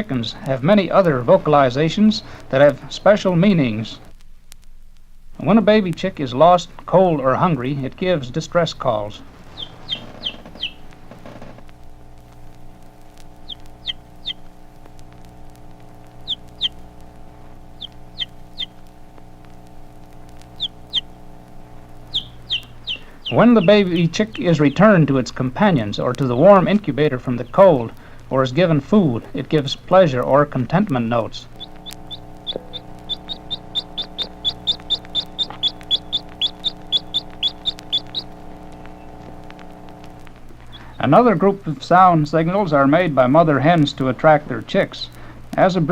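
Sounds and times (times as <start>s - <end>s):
baby chick peeping: 0.0s - 4.1s, 6.0s - 45.3s
steady low hum: 0.0s - 45.9s
vinyl record crackle: 0.0s - 45.9s.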